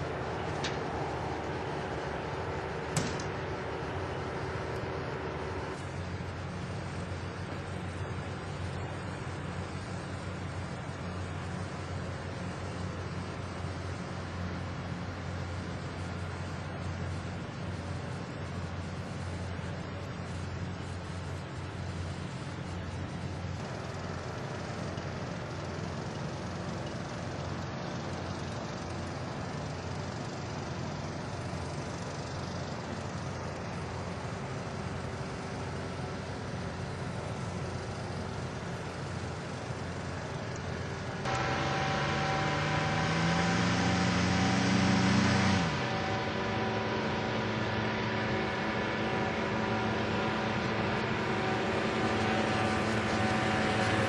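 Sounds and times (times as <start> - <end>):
small aircraft engine drone: 0.0 - 54.0.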